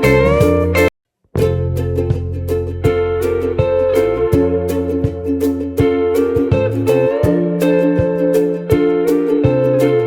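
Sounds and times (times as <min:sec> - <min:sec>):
bass line: 0:00.0 - 0:10.0
plucked strings music with beat: 0:00.0 - 0:10.0.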